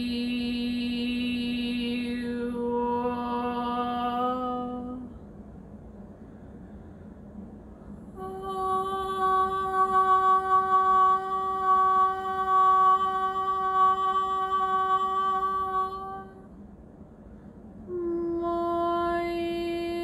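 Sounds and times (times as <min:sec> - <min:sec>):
woman singing long steady note: 0:00.0 - 0:20.0.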